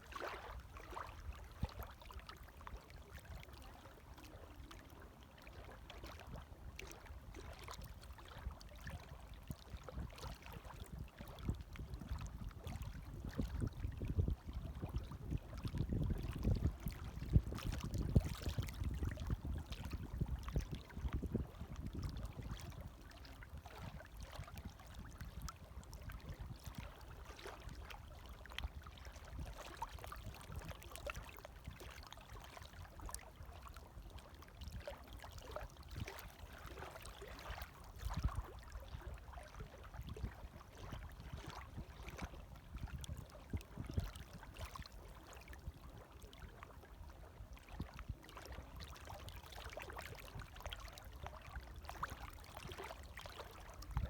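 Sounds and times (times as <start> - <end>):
small waves lapping: 0.0 - 54.0
water splashes and trickles: 0.0 - 54.0.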